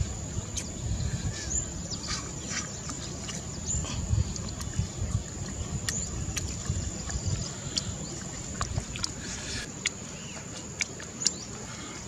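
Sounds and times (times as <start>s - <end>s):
man chewing with wet smacks: 1.4s - 12.0s.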